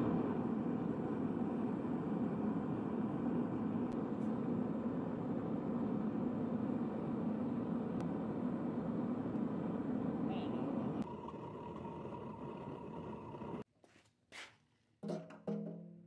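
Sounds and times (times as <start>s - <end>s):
gas forge burner rushing: 0.0s - 13.6s.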